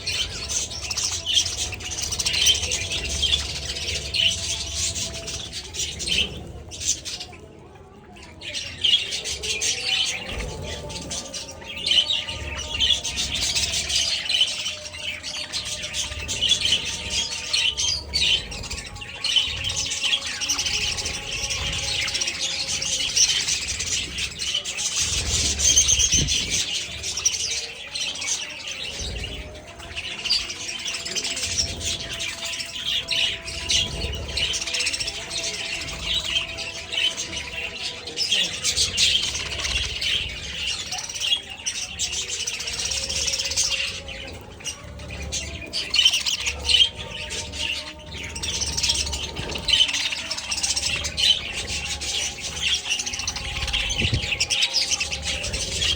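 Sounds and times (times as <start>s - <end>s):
budgerigars chattering and chirping: 0.0s - 55.9s.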